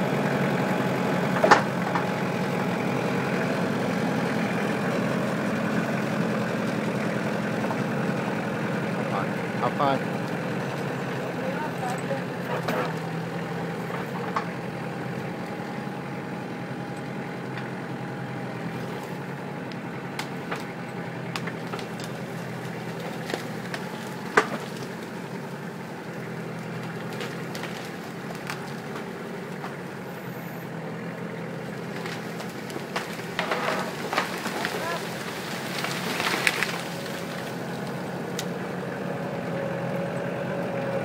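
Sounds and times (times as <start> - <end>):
wood cracking: 0.0 - 38.8
tractor diesel engine running: 0.0 - 41.0.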